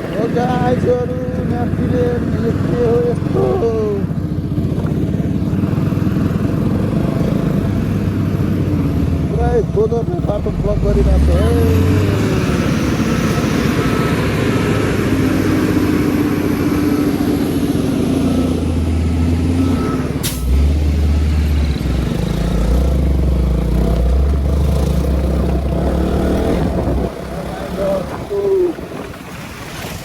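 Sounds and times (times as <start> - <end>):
heavy vehicle engines idling: 0.0 - 30.0.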